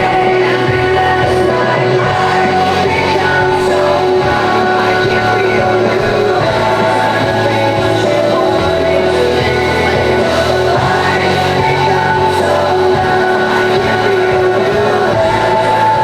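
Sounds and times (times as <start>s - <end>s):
music with singing voice: 0.0s - 16.0s.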